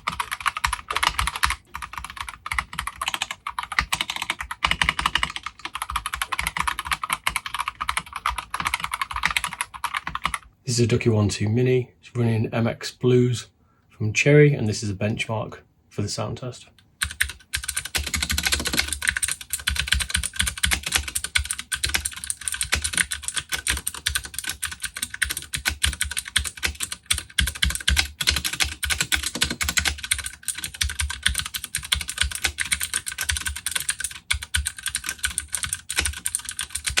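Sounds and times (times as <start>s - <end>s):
fast typing on mechanical keyboard: 0.0s - 10.4s, 17.0s - 37.0s.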